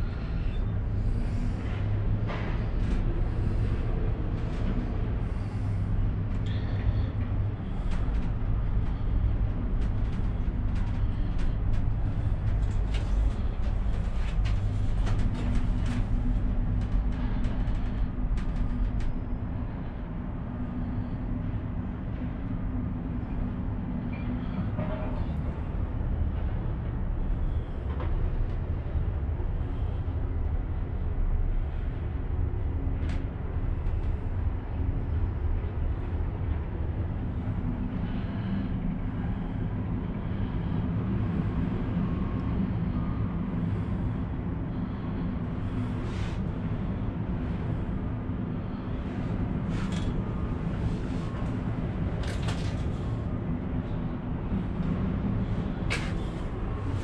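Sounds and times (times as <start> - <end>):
cable car rumble and hum: 0.0 - 57.0.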